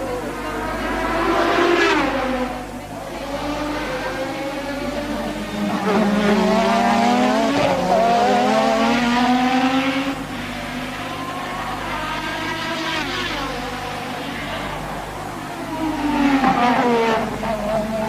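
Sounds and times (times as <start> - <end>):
faint racing car engines: 0.0 - 18.0
racing car engine revving: 0.0 - 18.0.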